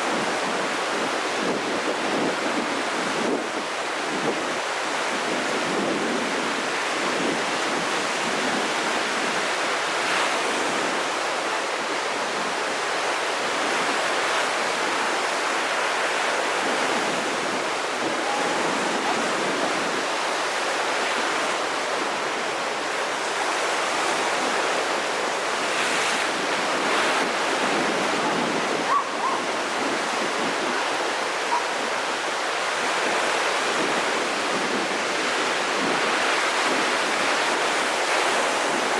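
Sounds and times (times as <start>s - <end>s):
rough sea waves breaking: 0.0s - 38.9s.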